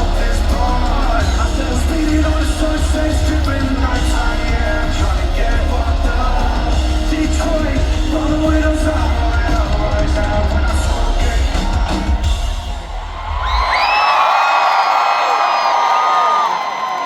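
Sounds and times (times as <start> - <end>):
live rock music: 0.0 - 14.3
crowd screaming: 0.0 - 17.0.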